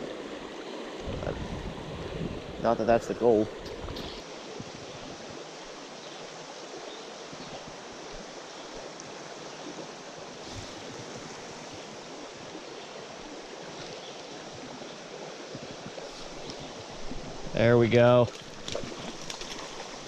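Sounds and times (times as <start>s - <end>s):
stream flowing over riffles: 0.0s - 20.0s.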